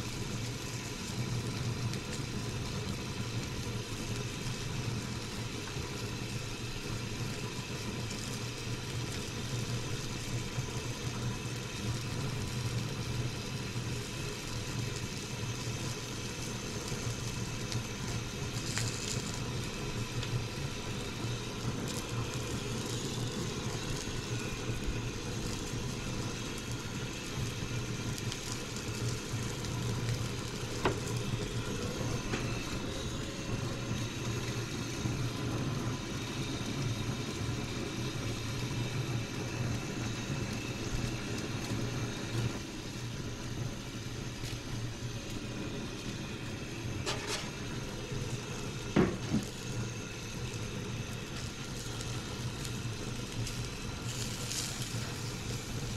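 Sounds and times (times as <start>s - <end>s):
fish sizzling on a grill: 0.0s - 55.9s.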